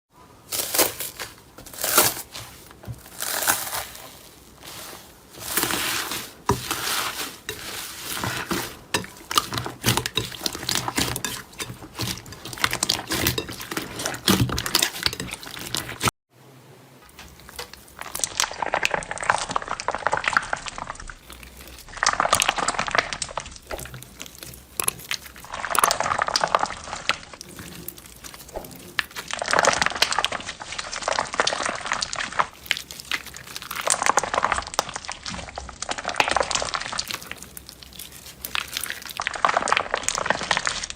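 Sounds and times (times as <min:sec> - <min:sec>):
slime crackling and popping: 0:00.5 - 0:16.1, 0:17.2 - 0:40.9.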